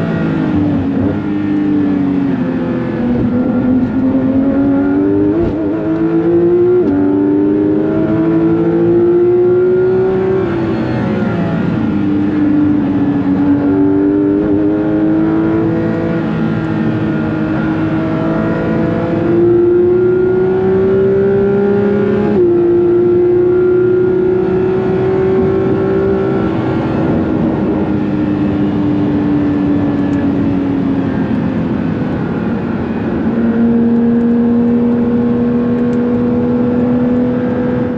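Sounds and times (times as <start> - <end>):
car engine accelerating and shifting: 0.0 - 37.9.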